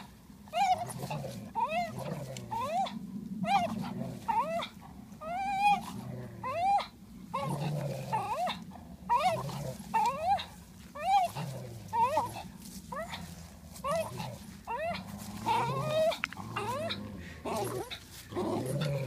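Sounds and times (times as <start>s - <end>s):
dog growling low: 0.0s - 19.0s.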